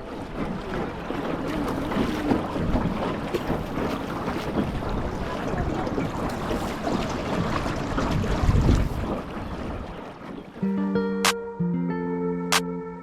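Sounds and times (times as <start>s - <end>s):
boat knocks: 0.0s - 10.6s
wind buffeting microphone: 0.0s - 10.6s
water splashing: 0.0s - 10.7s.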